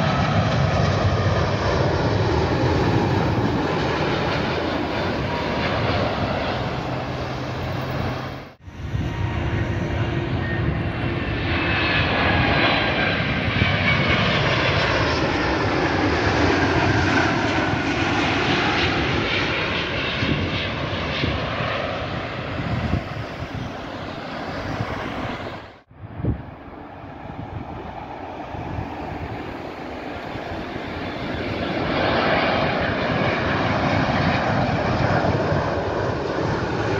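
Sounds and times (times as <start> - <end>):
high whines gliding down: 0.0 - 36.9
jet engine noise: 0.0 - 36.9.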